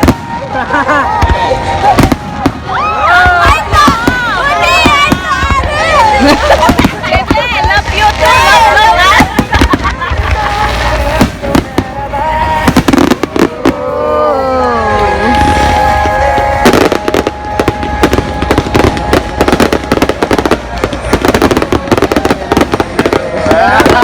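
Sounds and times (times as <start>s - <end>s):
fireworks bursting and crackling: 0.0s - 24.0s
music playing: 0.0s - 24.0s.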